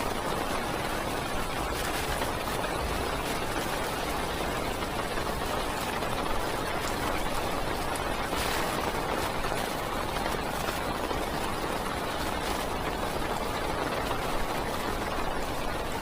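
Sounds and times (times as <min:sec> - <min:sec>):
heavy rain on a car roof: 0:00.0 - 0:16.0.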